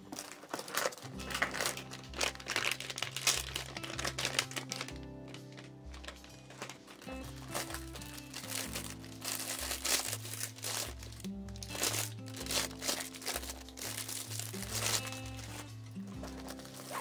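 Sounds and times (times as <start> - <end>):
plastic packaging crinkling: 0.0 - 17.0
background music with bass line: 1.0 - 17.0.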